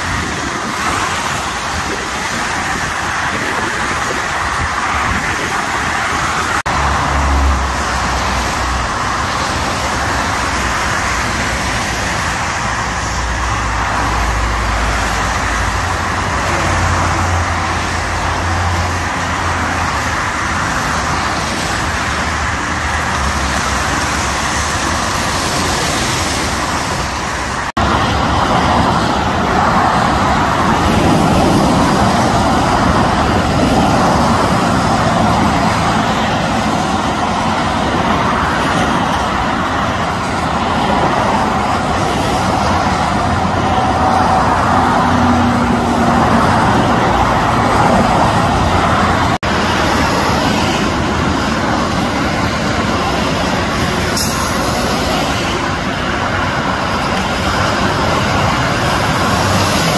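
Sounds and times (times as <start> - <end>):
rumble of passing vehicles: 0.0 - 59.9
tyres hissing on wet road: 0.0 - 59.9.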